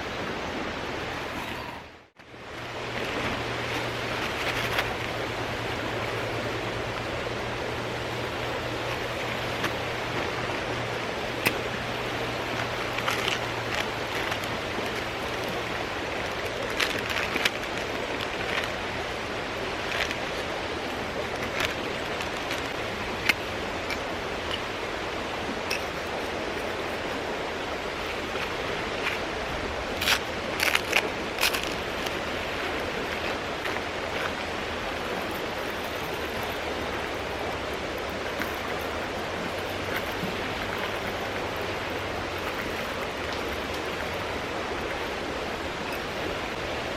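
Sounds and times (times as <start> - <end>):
mountain stream rushing: 0.0 - 46.9.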